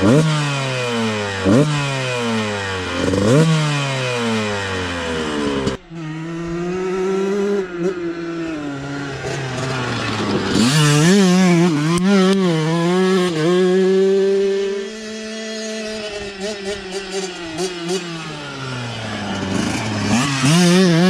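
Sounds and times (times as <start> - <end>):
two-stroke motorcycle engine revving: 0.0 - 21.0.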